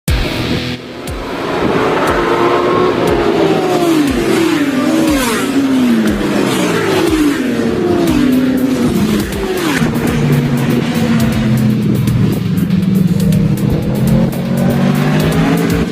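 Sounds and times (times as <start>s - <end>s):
racing motorcycle engines revving: 0.1s - 15.9s.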